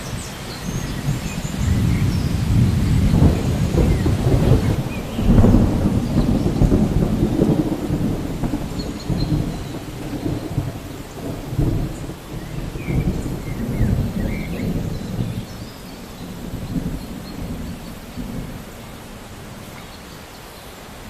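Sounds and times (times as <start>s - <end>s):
low rumble of thunder: 0.0s - 19.8s
steady rain: 0.0s - 21.0s.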